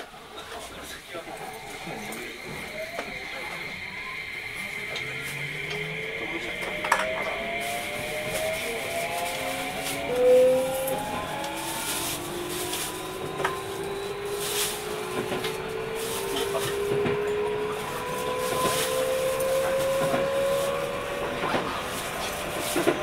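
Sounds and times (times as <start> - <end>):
wheel and track noise: 0.0 - 23.0
electric train motor whine: 0.6 - 23.0.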